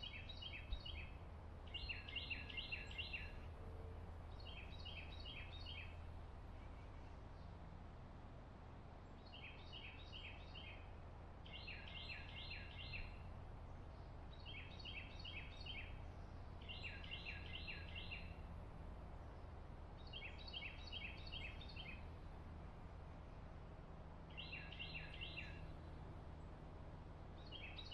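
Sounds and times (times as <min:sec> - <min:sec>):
faint low outdoor rumble: 0:00.0 - 0:27.9.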